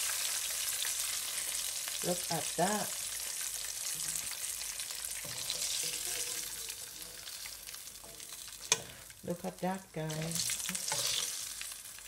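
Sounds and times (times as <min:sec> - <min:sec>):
oil sizzling in frying pan: 0:00.0 - 0:12.0.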